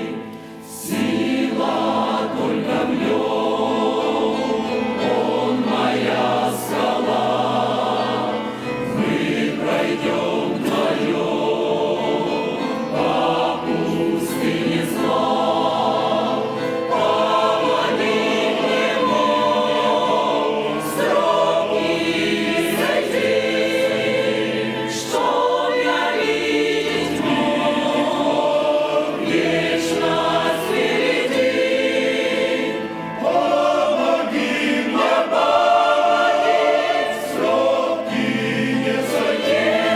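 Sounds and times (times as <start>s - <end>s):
church choir singing a hymn: 0.0s - 39.9s.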